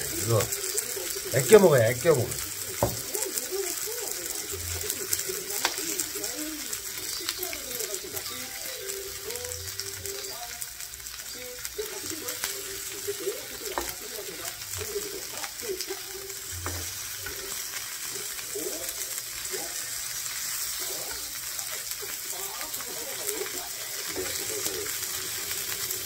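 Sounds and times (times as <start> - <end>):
pork sizzling on a grill pan: 0.0 - 26.0.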